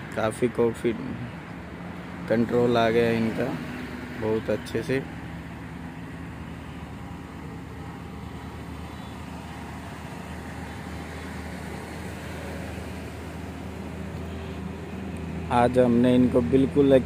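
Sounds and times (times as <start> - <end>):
car engine humming: 0.0 - 17.0.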